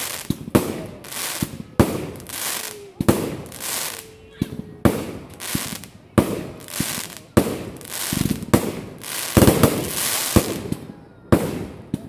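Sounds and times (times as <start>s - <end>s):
fireworks bangs: 0.0s - 12.0s
fireworks crackling tails: 0.0s - 12.0s.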